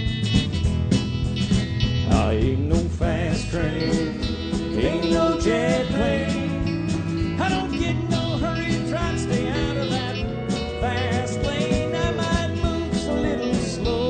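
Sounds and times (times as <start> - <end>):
country band instrumental: 0.0 - 14.0
sliding bending lead notes: 0.0 - 14.0.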